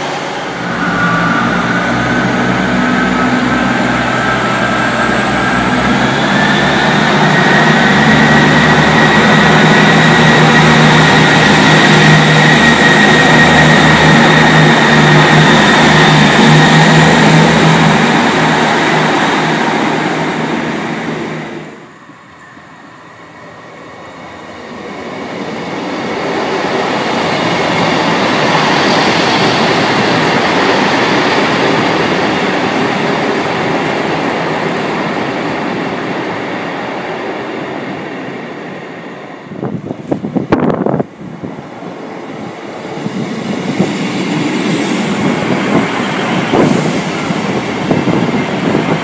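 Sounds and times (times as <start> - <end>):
diesel trains passing: 0.0 - 49.0.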